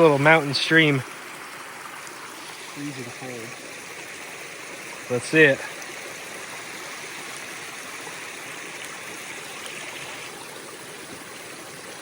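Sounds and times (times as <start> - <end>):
mountain stream running: 0.0 - 12.0.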